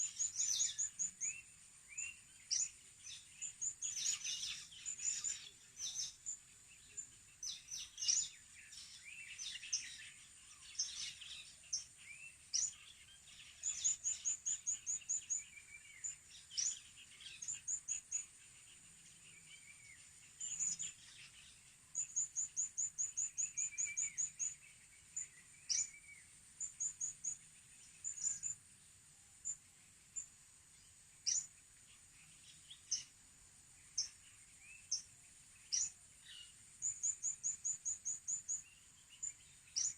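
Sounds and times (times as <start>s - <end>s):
faint high hiss: 0.0s - 39.9s
small birds chirping: 0.0s - 39.9s.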